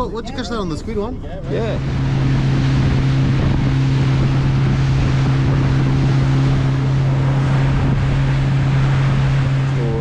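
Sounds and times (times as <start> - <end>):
boat motor running: 0.0 - 10.0
wind buffeting microphone: 0.5 - 10.0.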